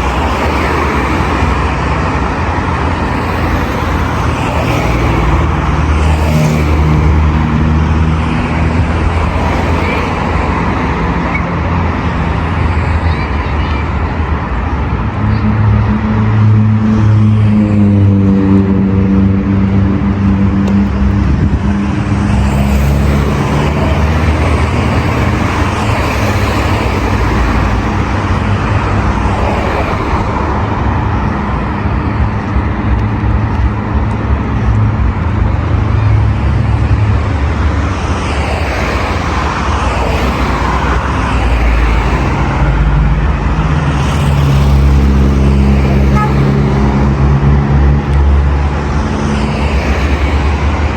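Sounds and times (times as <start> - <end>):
cars passing: 0.0 - 50.9.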